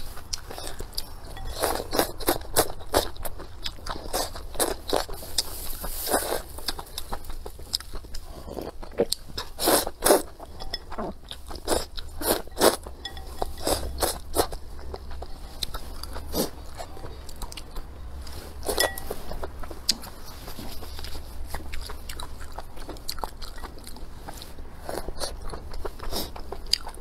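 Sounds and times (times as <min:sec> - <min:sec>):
person chewing: 0:00.0 - 0:27.0.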